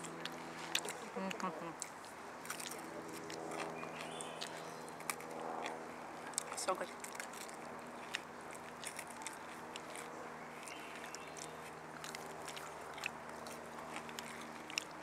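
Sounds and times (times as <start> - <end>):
crunching and chewing fried potatoes: 0.0 - 15.0.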